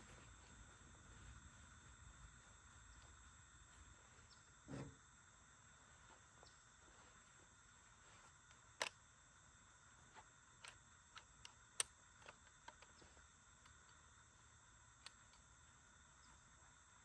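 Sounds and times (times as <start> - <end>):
faint high-pitched hum: 0.0 - 17.0.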